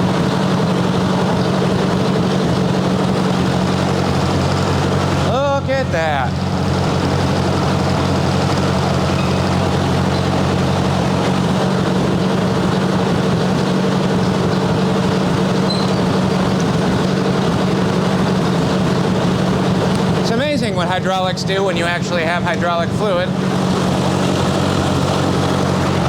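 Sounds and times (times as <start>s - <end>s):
hydraulic pump working: 0.0s - 26.0s
tractor engine running: 0.0s - 26.0s.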